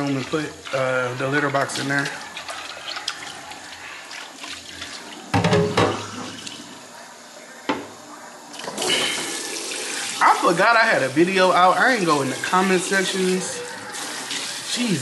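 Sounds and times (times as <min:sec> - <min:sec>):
tap water running into sink: 0:00.0 - 0:06.7, 0:08.6 - 0:15.0.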